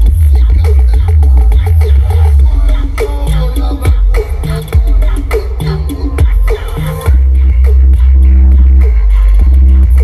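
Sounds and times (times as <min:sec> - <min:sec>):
heavy sub-bass: 0:00.0 - 0:10.0
loud electronic dance music: 0:00.0 - 0:10.0.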